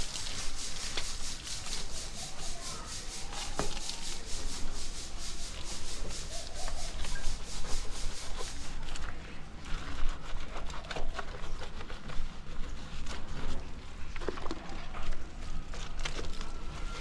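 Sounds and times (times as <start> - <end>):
scrubbing strokes on motorcycle: 0.0 - 13.8.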